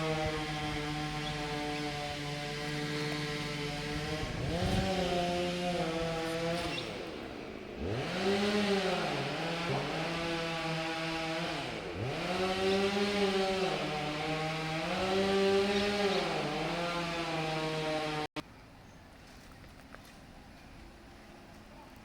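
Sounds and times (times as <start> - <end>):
chainsaw cutting wood: 0.0 - 18.3.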